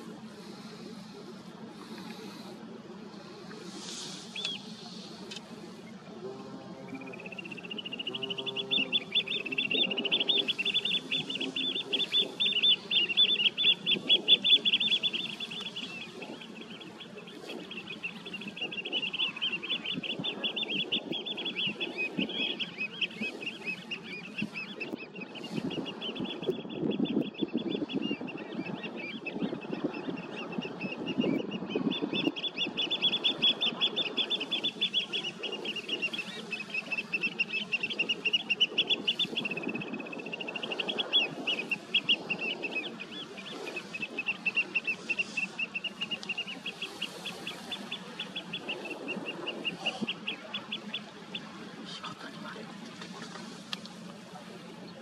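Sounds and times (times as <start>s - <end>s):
flock of birds chattering: 0.0s - 55.0s.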